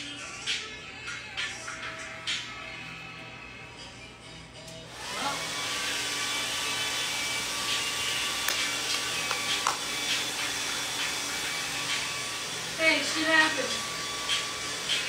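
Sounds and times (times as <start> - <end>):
hair dryer running: 1.4 - 15.0.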